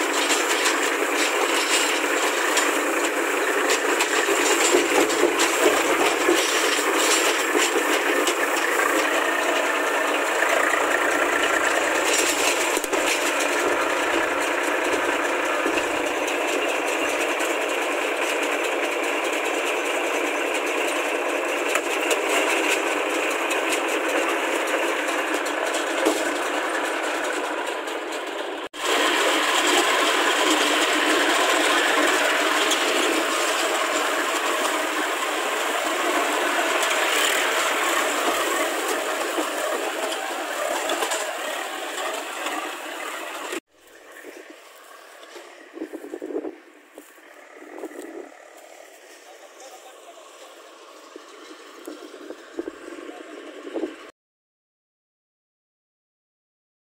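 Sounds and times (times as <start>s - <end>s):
tractor engine running: 0.0s - 54.1s.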